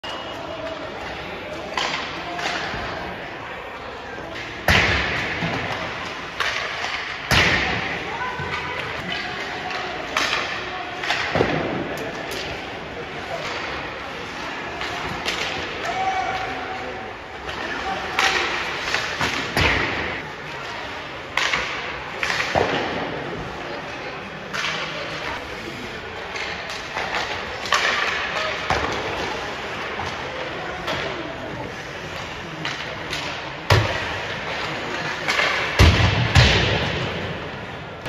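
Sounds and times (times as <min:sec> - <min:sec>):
hockey sticks firing pucks: 0:00.1 - 0:03.2, 0:03.9 - 0:23.6, 0:26.2 - 0:38.0
pucks striking boards: 0:00.1 - 0:03.2, 0:03.9 - 0:23.6, 0:24.5 - 0:25.6, 0:26.2 - 0:37.8.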